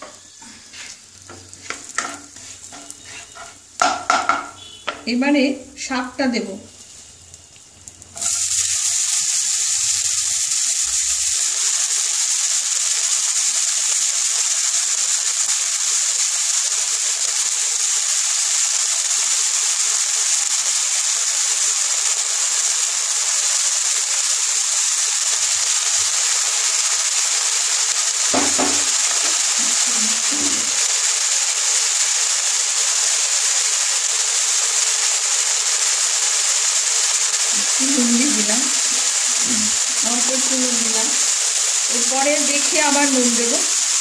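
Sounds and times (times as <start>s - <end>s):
leaves sizzling in hot oil: 0.0s - 44.0s.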